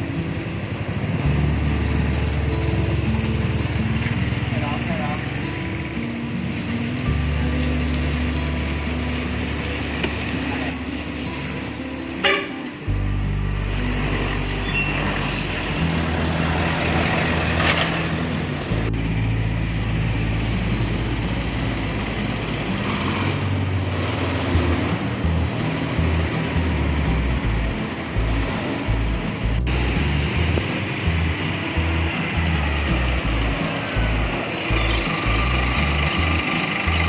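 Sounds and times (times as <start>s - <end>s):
bus diesel engines idling: 0.0s - 37.0s.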